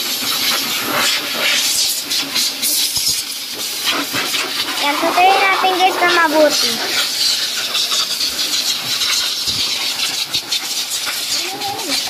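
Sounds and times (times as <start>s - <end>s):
dryer blowing air: 0.0s - 12.0s.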